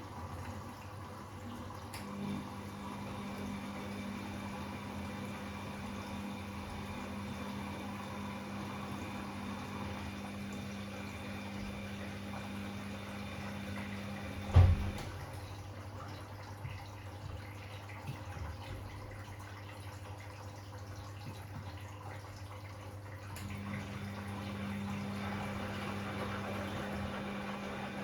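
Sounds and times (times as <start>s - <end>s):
washing machine low hum: 0.0s - 28.0s
water flowing into washing machine: 0.0s - 28.0s.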